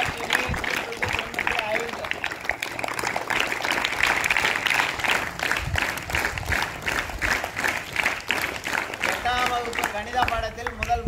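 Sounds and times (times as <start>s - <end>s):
group clapping: 0.0s - 11.0s.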